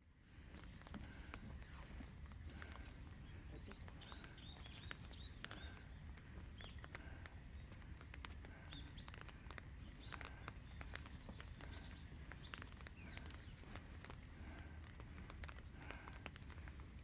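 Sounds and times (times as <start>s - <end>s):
rain ticking: 0.0s - 17.0s
small birds chirping: 0.0s - 17.0s.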